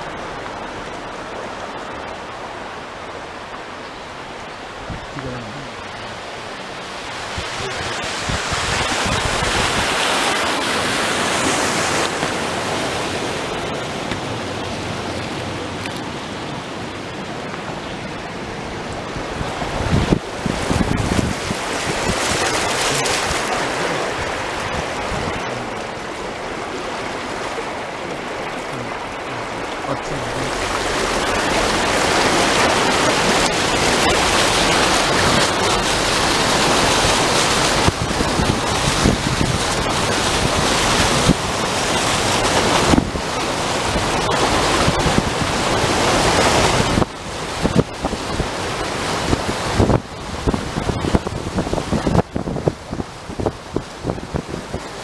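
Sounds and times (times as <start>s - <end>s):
storm rushing noise: 4.5s - 54.9s.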